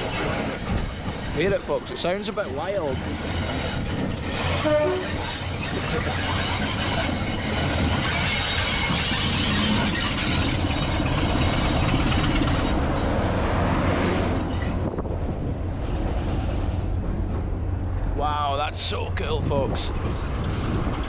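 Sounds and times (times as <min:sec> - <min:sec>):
train rolling on rails: 0:00.0 - 0:21.0.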